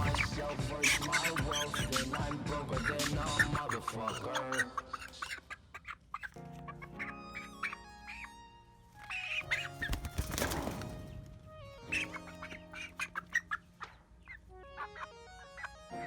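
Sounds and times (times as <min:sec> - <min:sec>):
hen squawking and clucking: 0:00.0 - 0:11.0, 0:11.6 - 0:16.0
background music: 0:00.0 - 0:16.0.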